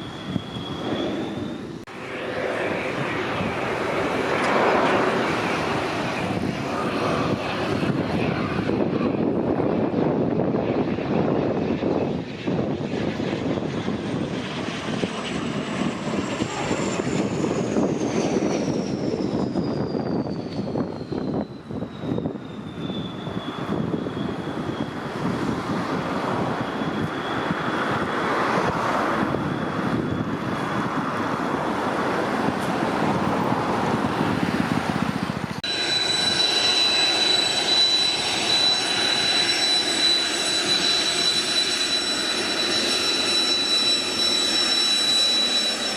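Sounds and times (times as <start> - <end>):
jet engine whine on ground: 0.0 - 45.9
jet passing by: 0.0 - 45.9.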